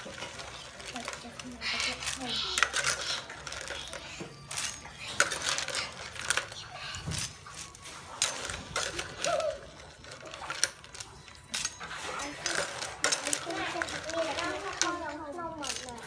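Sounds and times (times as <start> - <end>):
shells clattering into strainer: 0.0 - 16.0.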